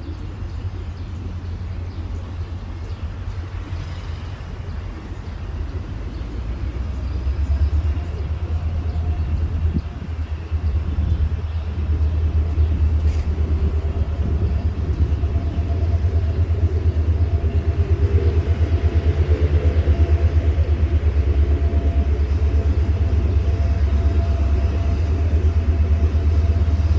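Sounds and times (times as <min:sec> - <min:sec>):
train engine throbbing: 0:00.0 - 0:26.9.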